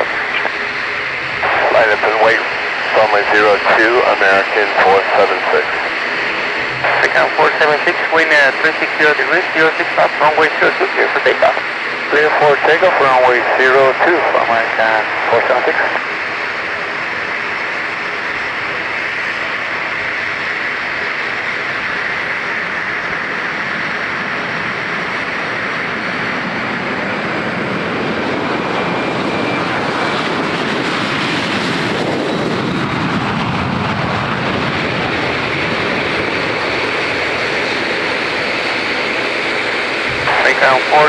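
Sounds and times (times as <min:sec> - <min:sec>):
jet engines roaring at takeoff: 0:00.0 - 0:41.0.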